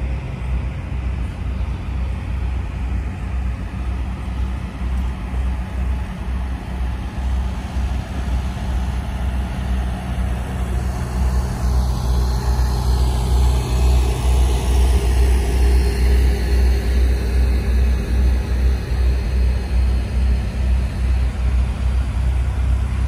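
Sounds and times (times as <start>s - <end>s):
diesel train idling: 0.0s - 23.0s.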